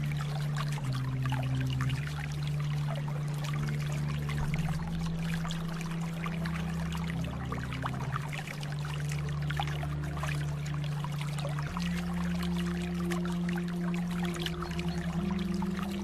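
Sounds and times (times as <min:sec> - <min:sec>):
low held tones: 0:00.0 - 0:16.0
water trickling and splashing: 0:00.0 - 0:16.0.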